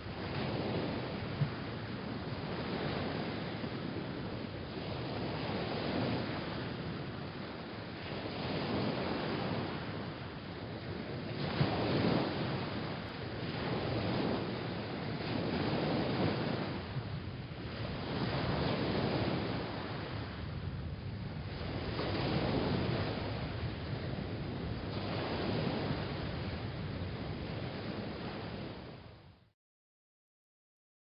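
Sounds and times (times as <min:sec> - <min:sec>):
ocean waves breaking: 0:00.0 - 0:29.4.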